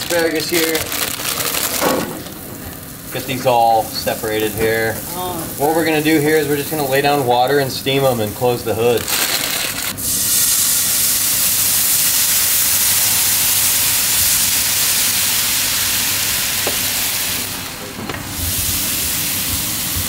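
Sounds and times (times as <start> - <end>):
water hissing on hot griddle: 2.3 - 17.7, 18.3 - 20.0.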